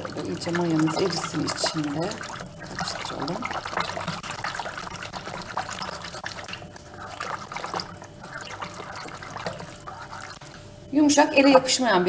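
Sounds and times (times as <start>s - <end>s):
whisk wires clicking on bowl: 0.0s - 10.6s
whisk sloshing liquid in bowl: 0.0s - 11.6s.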